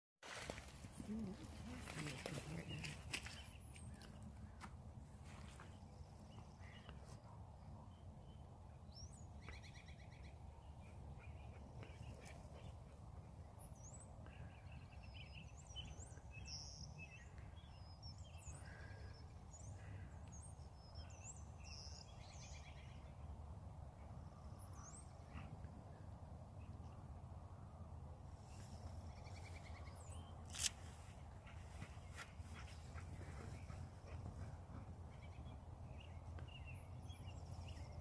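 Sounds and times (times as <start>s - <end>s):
songbirds chirping and trilling: 0.3s - 38.0s.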